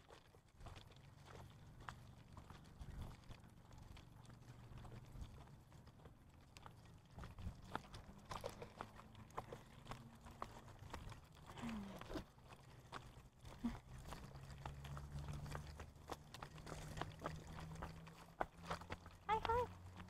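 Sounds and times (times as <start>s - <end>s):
footsteps on brick path: 0.0s - 20.0s
stroller wheels rolling on bricks: 0.0s - 20.0s.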